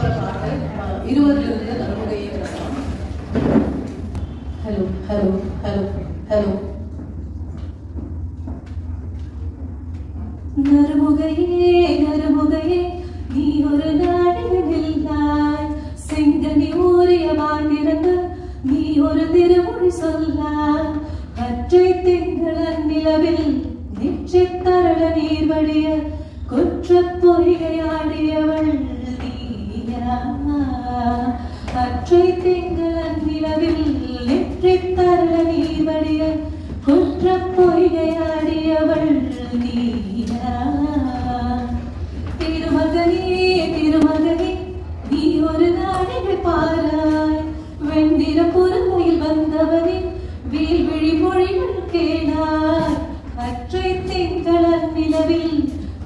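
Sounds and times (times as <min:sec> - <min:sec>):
low steady hum: 0:00.0 - 0:56.0
woman singing unaccompanied: 0:10.6 - 0:55.8.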